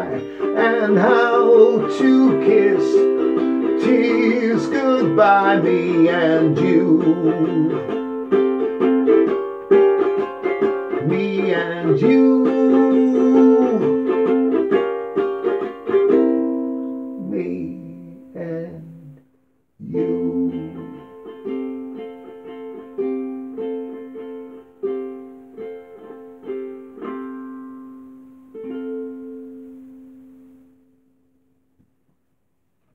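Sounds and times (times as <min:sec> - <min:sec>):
ukulele strummed chords: 0:00.0 - 0:32.1.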